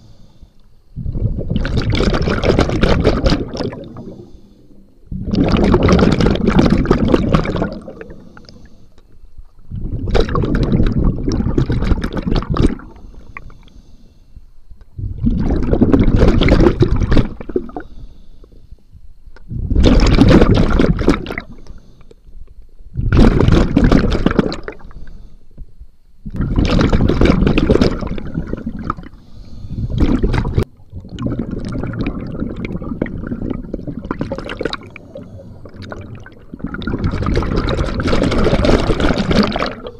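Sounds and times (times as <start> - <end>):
regulator bubbling underwater: 0.9 - 8.7, 9.6 - 13.6, 14.8 - 18.0, 19.4 - 21.6, 22.9 - 24.9, 26.2 - 39.9.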